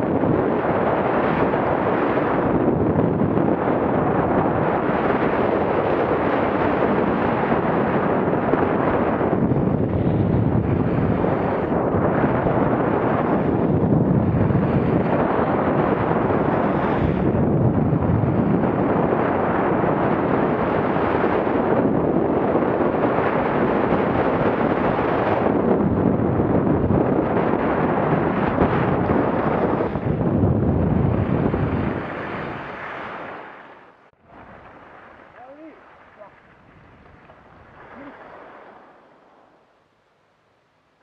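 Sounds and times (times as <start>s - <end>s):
wind buffeting microphone: 0.0s - 39.8s.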